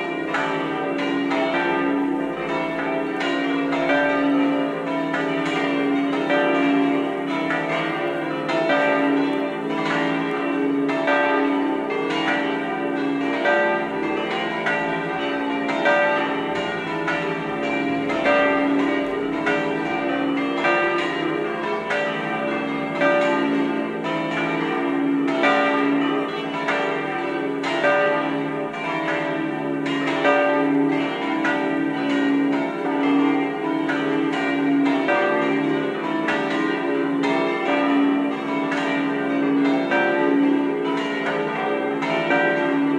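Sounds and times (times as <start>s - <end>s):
church bells pealing: 0.0s - 42.9s.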